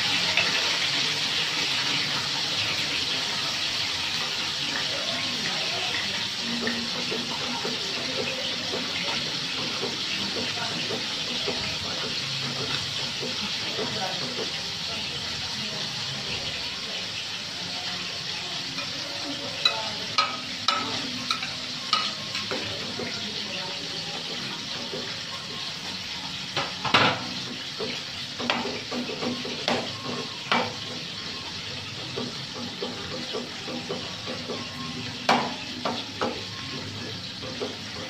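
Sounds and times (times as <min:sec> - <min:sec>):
fish sizzling in oil: 0:00.0 - 0:38.0.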